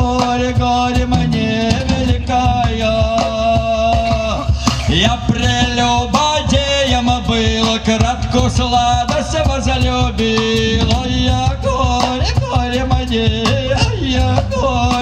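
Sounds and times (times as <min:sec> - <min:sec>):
cajon beat: 0:00.0 - 0:15.0
double bass: 0:00.0 - 0:15.0
man singing into a microphone: 0:00.0 - 0:15.0.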